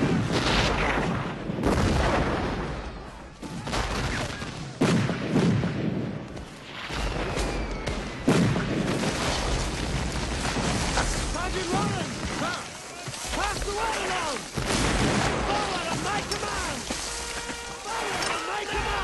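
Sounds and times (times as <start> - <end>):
heavy cannon blasts: 0.0 - 19.0.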